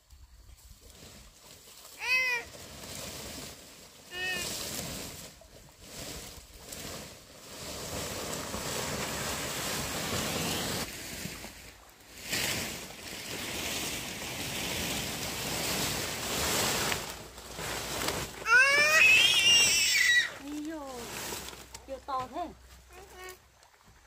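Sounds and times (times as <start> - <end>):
palm leaves rustling and dragging: 0.0 - 24.0.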